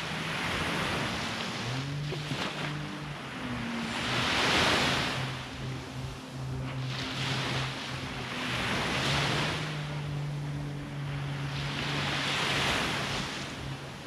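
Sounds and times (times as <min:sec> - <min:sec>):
sea waves washing onto shore: 0:00.0 - 0:14.0
steady low hum: 0:00.0 - 0:14.0.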